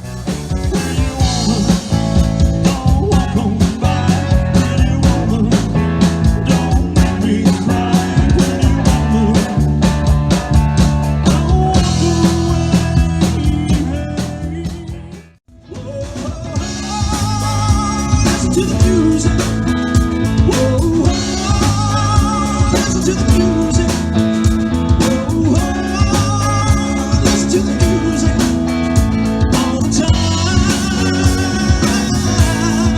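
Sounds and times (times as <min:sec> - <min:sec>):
blues-rock band music: 0:00.0 - 0:32.9.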